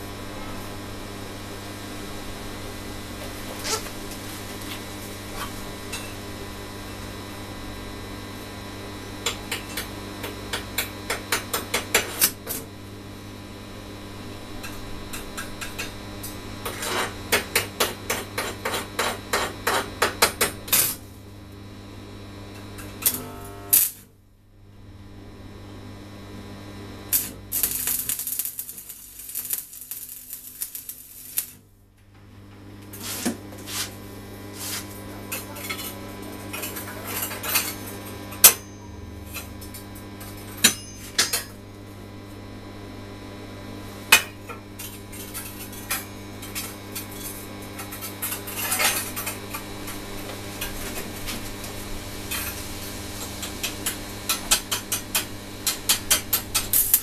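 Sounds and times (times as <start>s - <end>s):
welding arc crackling and hissing: 0.0s - 21.2s, 21.9s - 24.1s, 26.0s - 31.7s, 32.8s - 57.0s
steady low hum: 0.0s - 57.0s.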